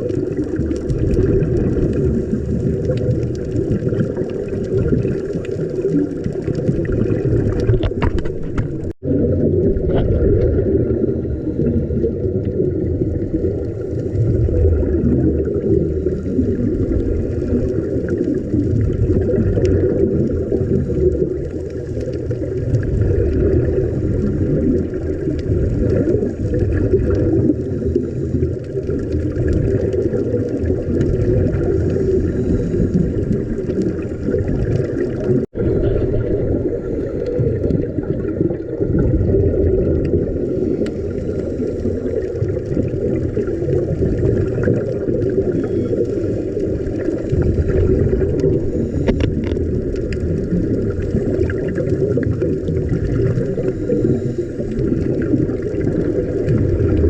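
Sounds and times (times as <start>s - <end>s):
muffled underwater rumble: 0.0s - 57.0s.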